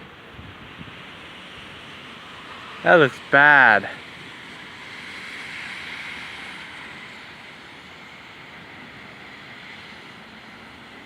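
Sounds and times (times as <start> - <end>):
rain: 0.0 - 11.0
wind: 0.0 - 11.0.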